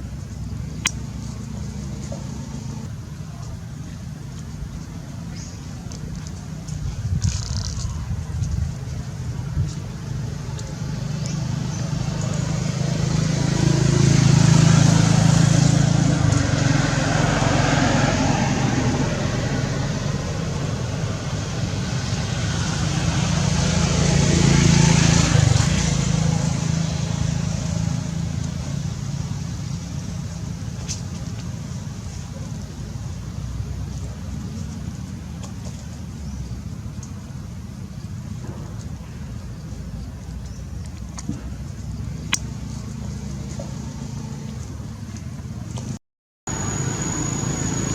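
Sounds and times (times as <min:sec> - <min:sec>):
vehicles passing by: 0:00.0 - 0:47.9.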